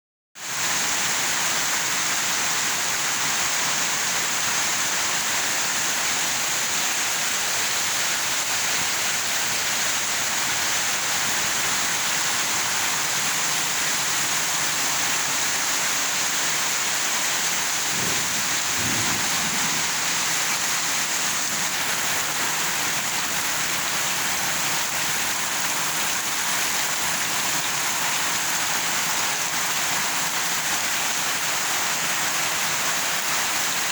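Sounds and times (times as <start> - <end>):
heavy rain pouring: 0.5 - 33.9.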